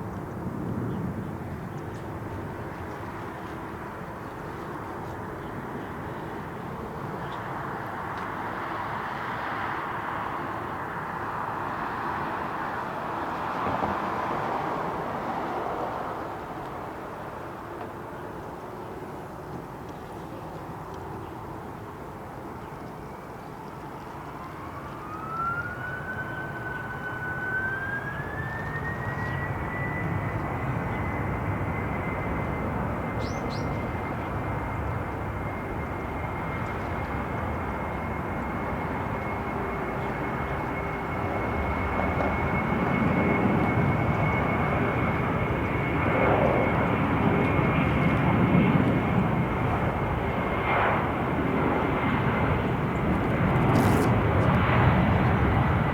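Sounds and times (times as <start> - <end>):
jet engine roar: 0.0 - 55.9
jet engine whine: 0.0 - 55.9.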